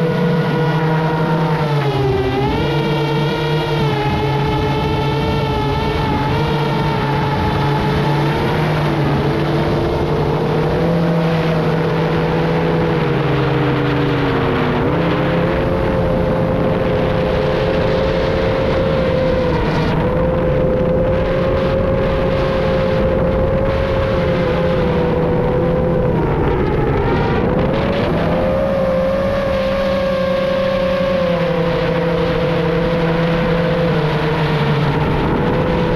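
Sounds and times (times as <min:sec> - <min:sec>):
drone propellers whining: 0:00.0 - 0:35.9
rushing wind: 0:00.0 - 0:35.9.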